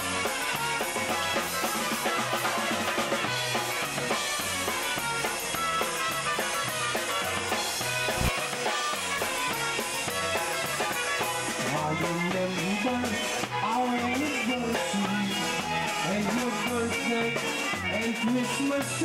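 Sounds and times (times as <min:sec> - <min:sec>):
drum kit beat: 0:00.0 - 0:19.0
polka band playing: 0:00.0 - 0:19.0.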